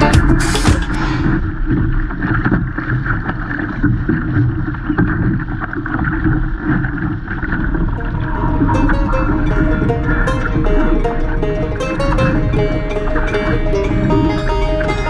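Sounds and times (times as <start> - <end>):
water splashing along hull: 0.0 - 15.0
wind buffeting microphone: 0.9 - 15.0.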